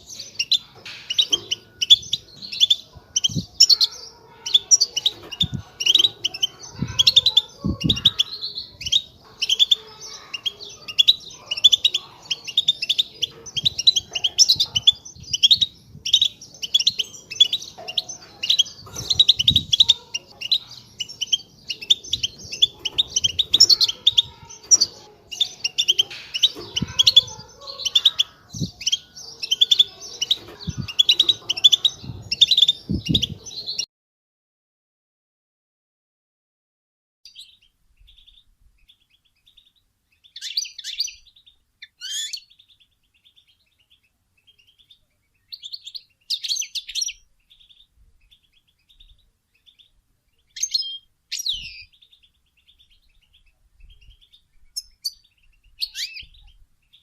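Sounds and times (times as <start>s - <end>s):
goldfinch twittering chatter calls: 0.0s - 33.8s, 37.3s - 57.0s.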